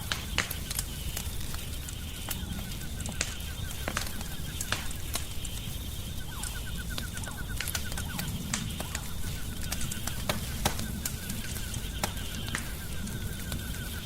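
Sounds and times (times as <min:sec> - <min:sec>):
faint rapid chirping: 0:00.0 - 0:14.0
wood fire crackling and popping: 0:00.0 - 0:14.0.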